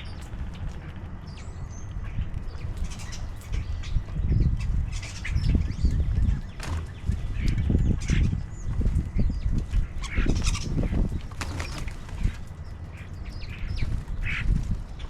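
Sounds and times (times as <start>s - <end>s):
wings flapping: 0.0s - 1.4s, 2.0s - 15.0s
small birds chirping: 0.0s - 15.0s.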